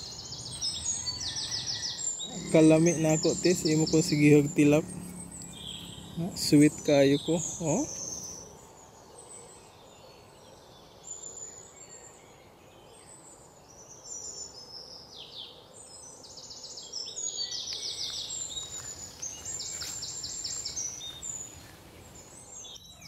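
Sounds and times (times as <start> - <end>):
birds chirping and trilling: 0.0 - 23.0
faint outdoor hiss: 0.0 - 23.0.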